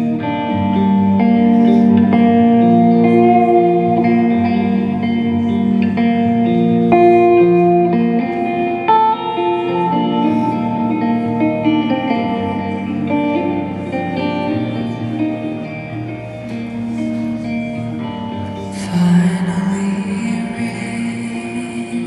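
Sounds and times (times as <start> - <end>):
guitar ringing chords: 0.0 - 22.0.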